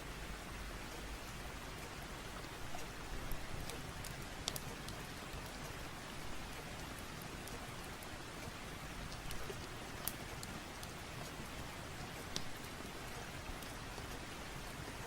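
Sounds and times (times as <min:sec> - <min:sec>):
rain falling: 0:00.0 - 0:15.0
wood fire crackling: 0:00.8 - 0:15.0.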